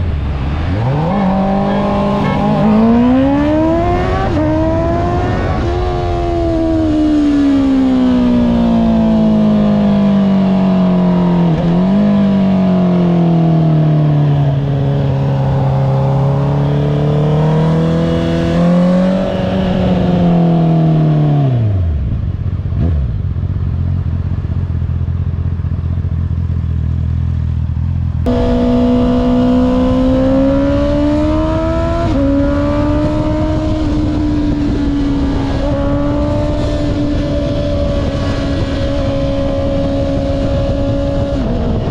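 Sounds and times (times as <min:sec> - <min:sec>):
motorcycle engine: 0:00.0 - 0:41.9.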